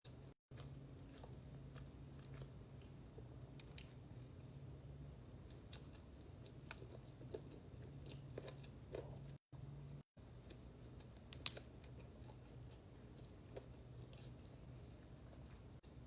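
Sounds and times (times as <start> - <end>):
close chewing and crunching: 0.1 - 9.5, 10.4 - 16.0.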